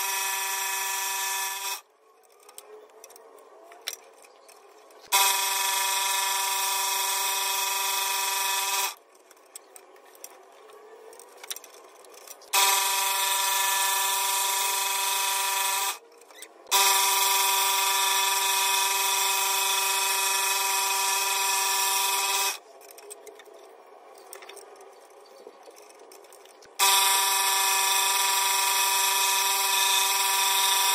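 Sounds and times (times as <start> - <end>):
scroll saw humming: 0.0 - 24.0, 25.6 - 30.9.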